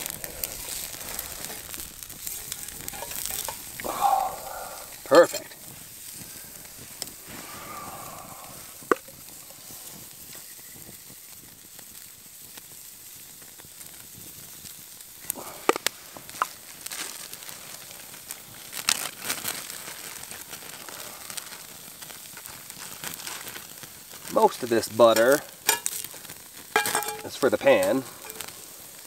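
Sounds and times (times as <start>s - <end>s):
fire crackling and popping: 0.0s - 29.0s
steak sizzling: 0.0s - 29.0s.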